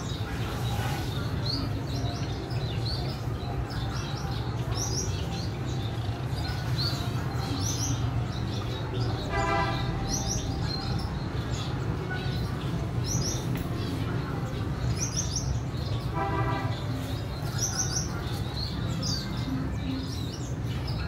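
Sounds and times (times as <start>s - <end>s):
finches chirping: 0.0s - 21.0s.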